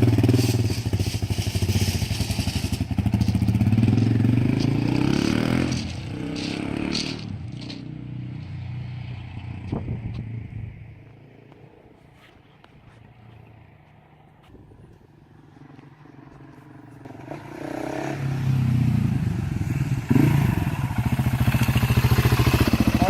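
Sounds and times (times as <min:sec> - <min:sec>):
motorcycle engine revving and idling: 0:00.0 - 0:11.9, 0:13.1 - 0:23.0.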